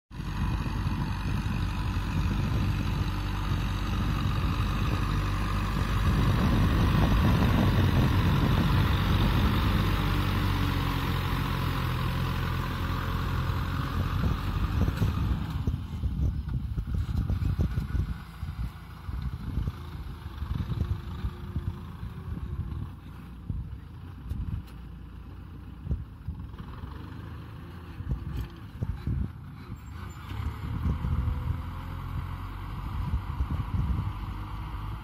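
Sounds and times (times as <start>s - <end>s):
tractor diesel engine under load: 0.1s - 35.0s.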